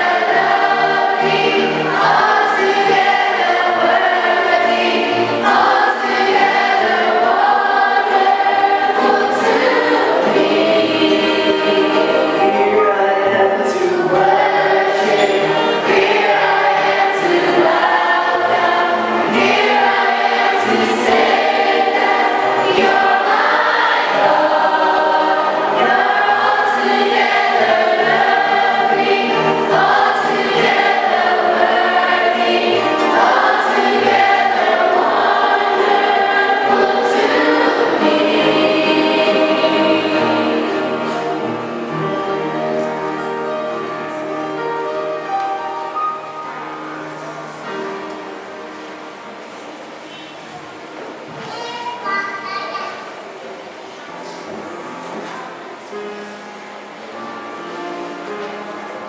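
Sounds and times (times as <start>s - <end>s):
choir singing a hymn: 0.0s - 51.4s, 53.0s - 59.0s.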